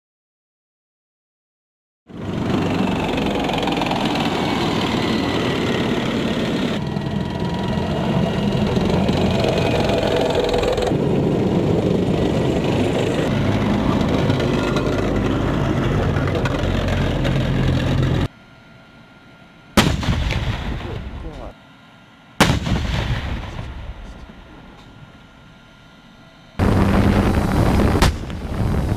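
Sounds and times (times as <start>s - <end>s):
tank gas-turbine engines running: 2.1s - 28.9s.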